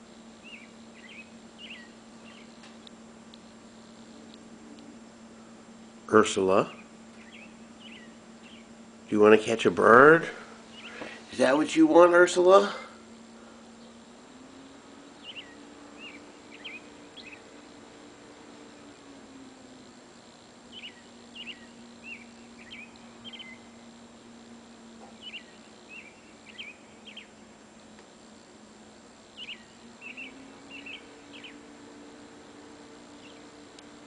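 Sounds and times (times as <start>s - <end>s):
faint low hum: 0.0s - 34.0s
songbird chirping: 0.2s - 34.0s.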